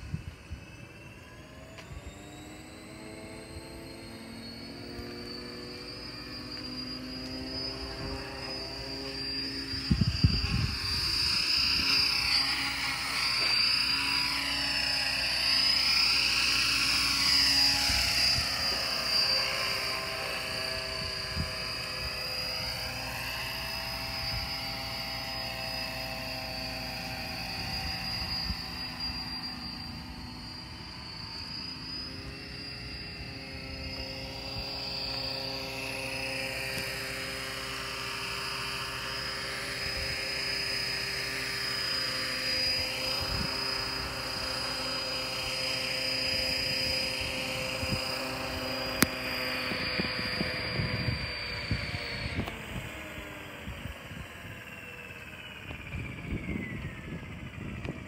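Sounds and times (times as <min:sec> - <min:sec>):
lower whine rising and falling: 0:00.0 - 0:58.0
model aircraft high whine: 0:00.0 - 0:58.0.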